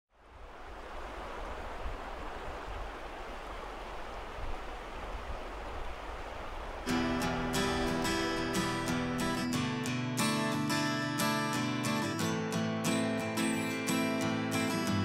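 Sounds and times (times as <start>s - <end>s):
river water rushing: 0.2s - 15.0s.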